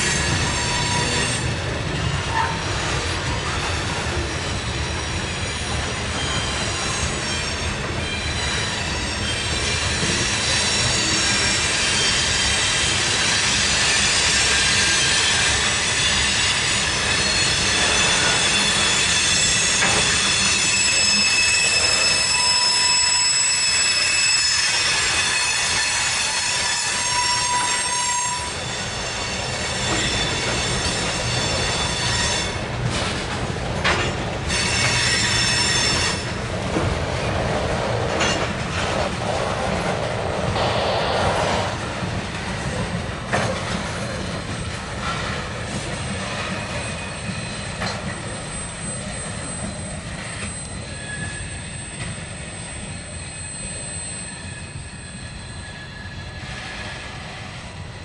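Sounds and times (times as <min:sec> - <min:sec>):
wheel flanges squealing: 0:00.0 - 0:40.8, 0:41.8 - 0:57.6
freight train rolling rumble: 0:00.0 - 0:58.0.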